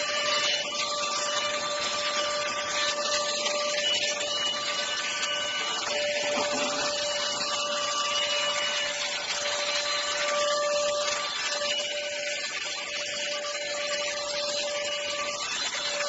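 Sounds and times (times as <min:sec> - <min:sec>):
cordless vacuum cleaner running: 0:00.0 - 0:16.0.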